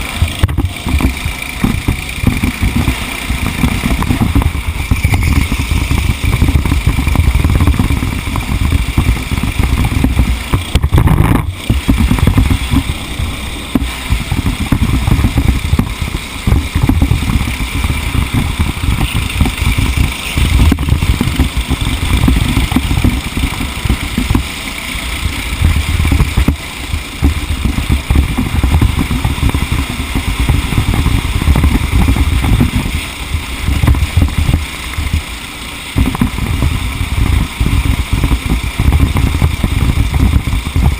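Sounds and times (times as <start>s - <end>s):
racing engine running hard: 0.0s - 40.9s
wind rumble on microphone: 0.0s - 40.9s.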